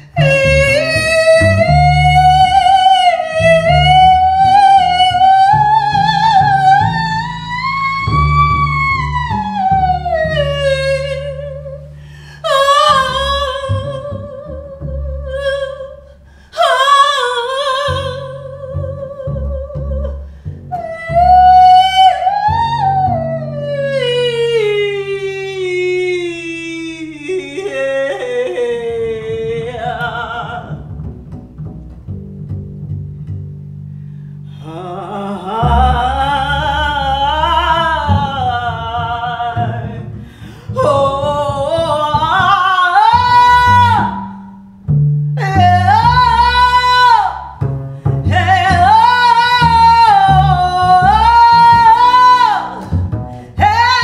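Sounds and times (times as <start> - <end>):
woman singing with vibrato: 0.0 - 30.9, 34.5 - 44.6, 45.4 - 47.6, 48.2 - 54.0
double bass low notes: 0.0 - 54.0.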